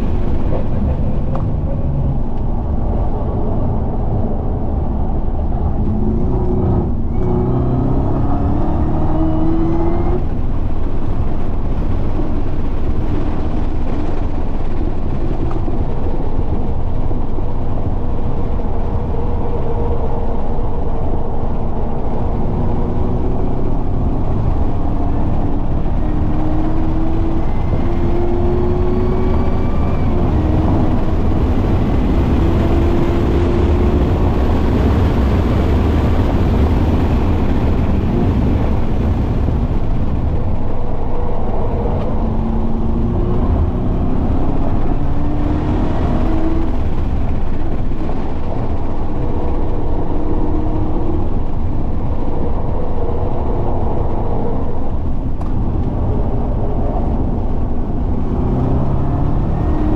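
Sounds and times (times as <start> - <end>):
car engine revving: 0.0 - 14.6, 18.4 - 59.9
wind and road noise: 0.0 - 59.9.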